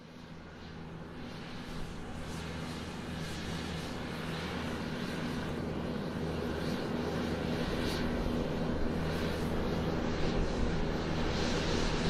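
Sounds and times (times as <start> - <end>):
airplane engine rumble: 0.0 - 12.0.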